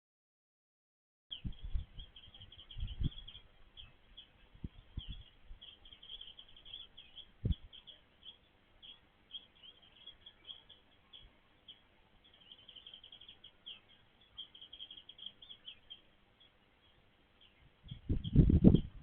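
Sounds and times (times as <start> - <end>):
small birds chirping: 1.3 - 19.0.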